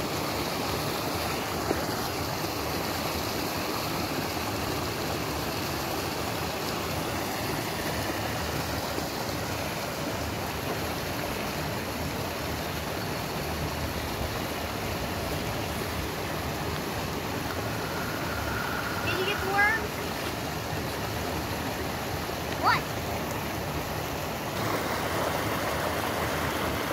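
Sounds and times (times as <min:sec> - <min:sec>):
creek water flowing: 0:00.0 - 0:26.9.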